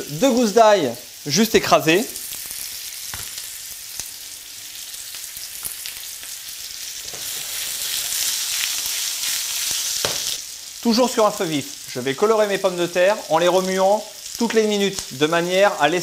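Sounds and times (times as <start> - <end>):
potatoes sizzling in frying pan: 0.0 - 16.0.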